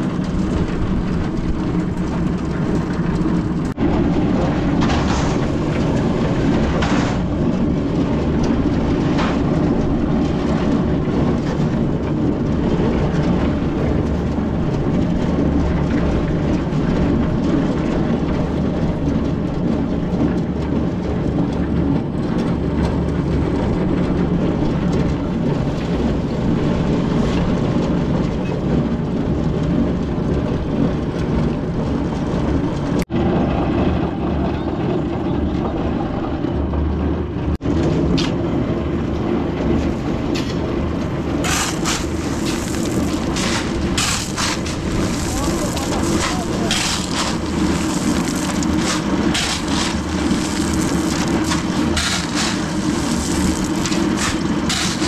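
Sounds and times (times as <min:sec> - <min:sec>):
concrete mixer running: 0:00.0 - 0:55.0.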